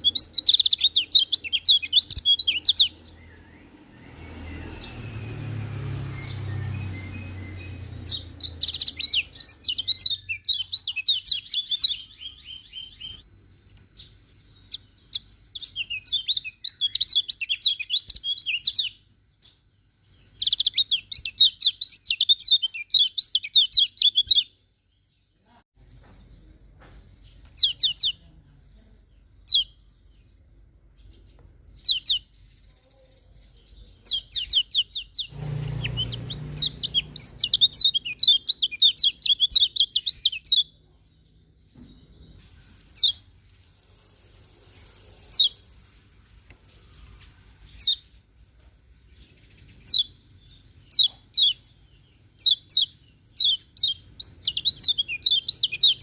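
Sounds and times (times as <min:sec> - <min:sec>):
songbird twittering: 0:00.0 - 0:25.4, 0:26.1 - 0:42.4, 0:45.2 - 0:45.7, 0:47.7 - 0:48.1, 0:49.1 - 0:56.0.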